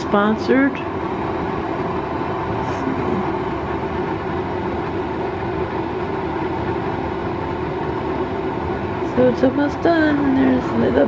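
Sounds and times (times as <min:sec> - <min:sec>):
coffee maker humming: 0:00.0 - 0:11.0.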